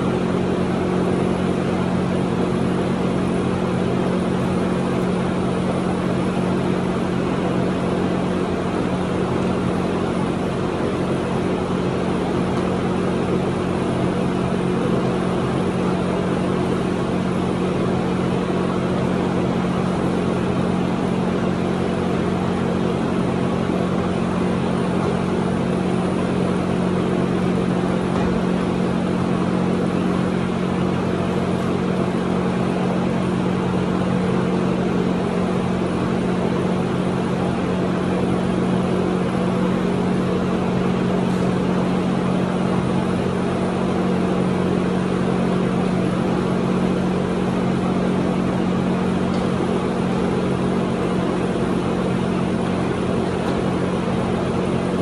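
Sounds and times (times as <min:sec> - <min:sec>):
machine motor humming: 0:00.0 - 0:55.0.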